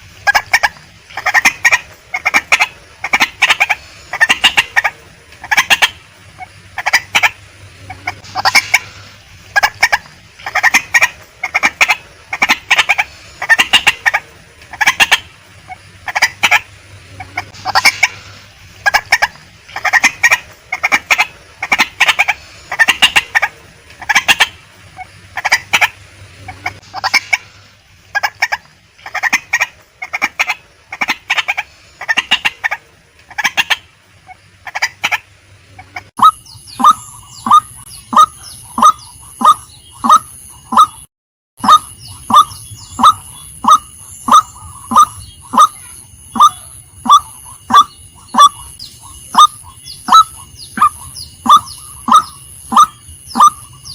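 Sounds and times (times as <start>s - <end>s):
waterhen calling harsh notes: 0.0s - 53.9s.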